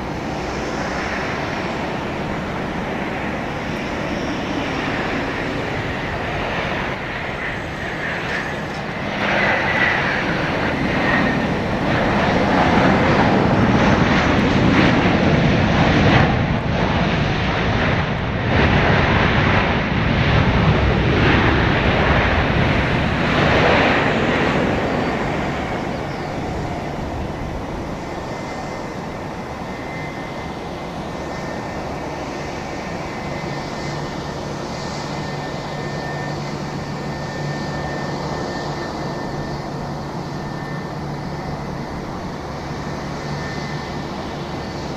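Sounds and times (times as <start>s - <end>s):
jet airliner landing: 0.0s - 44.9s.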